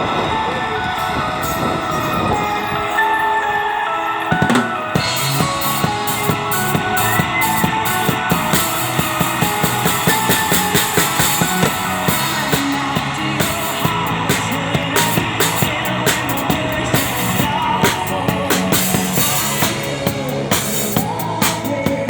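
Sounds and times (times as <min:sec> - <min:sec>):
guitar music: 0:00.0 - 0:22.0
drum kit beat: 0:04.3 - 0:22.0.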